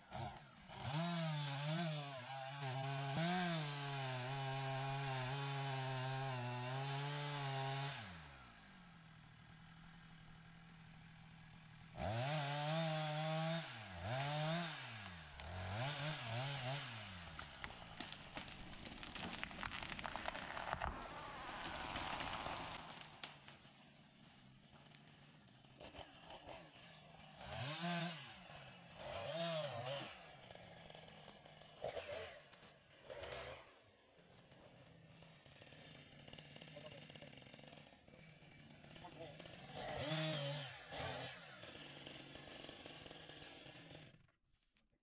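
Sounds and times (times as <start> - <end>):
chainsaw idling: 0.0 - 44.3
chainsaw cutting wood: 0.0 - 44.4.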